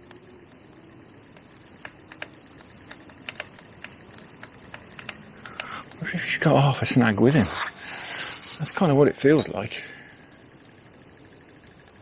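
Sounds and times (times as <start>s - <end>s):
fishing reel ticking: 0.0s - 12.0s.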